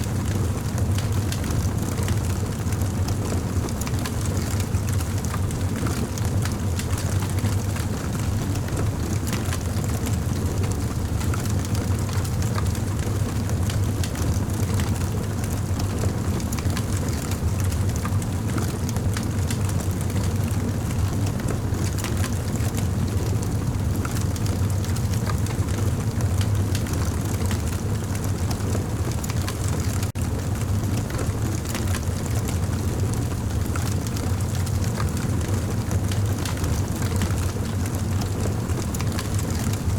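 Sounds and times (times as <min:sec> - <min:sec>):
campfire flames roaring: 0:00.0 - 0:39.9.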